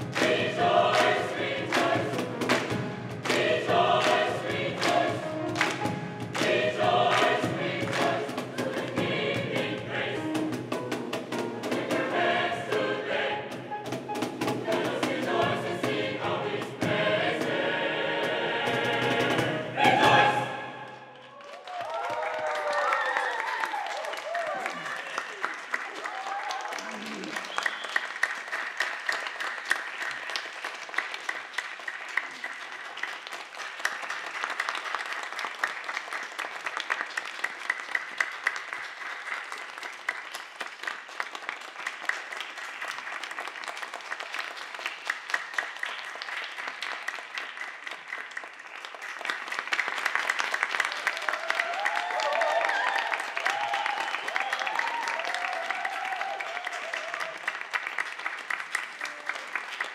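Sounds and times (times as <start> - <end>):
audience applauding: 0.0 - 9.0, 19.8 - 59.9.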